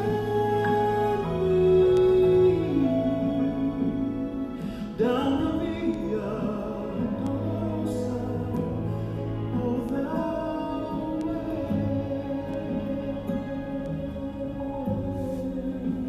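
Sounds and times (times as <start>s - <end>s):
men singing in harmony: 0.0s - 16.0s.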